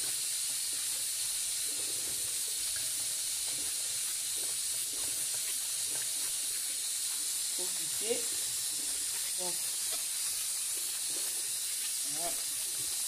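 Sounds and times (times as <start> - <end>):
constant high hiss: 0.0 - 13.0
whisk stirring in metal bowl: 0.0 - 13.0.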